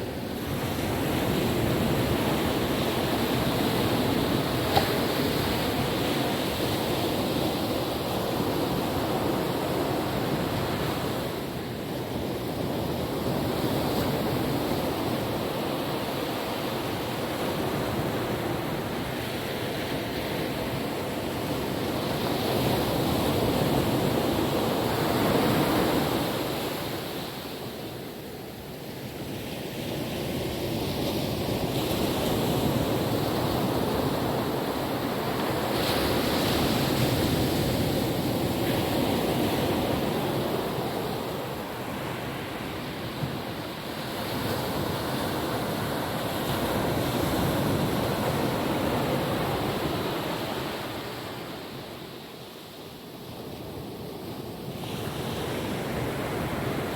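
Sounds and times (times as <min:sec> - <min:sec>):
ocean waves on beach: 0:00.0 - 0:56.9.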